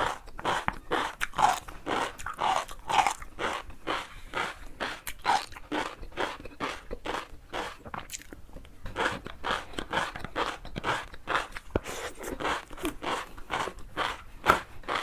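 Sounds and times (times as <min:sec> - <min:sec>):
crunchy food being chewed: 0:00.0 - 0:15.0.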